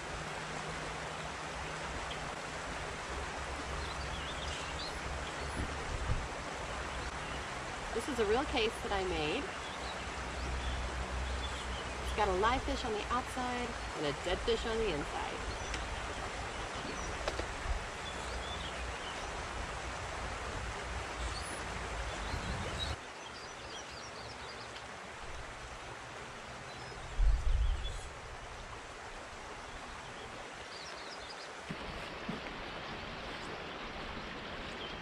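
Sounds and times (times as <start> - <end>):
flowing spring water: 0.0 - 35.0.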